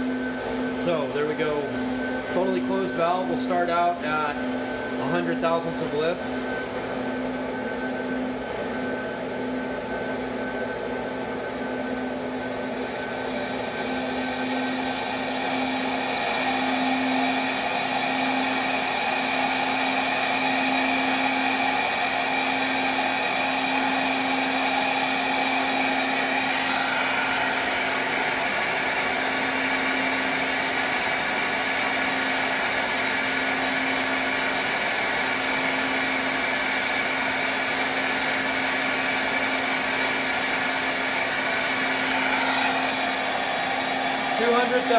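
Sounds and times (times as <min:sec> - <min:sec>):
motor rushing air with whine: 0:00.0 - 0:44.9.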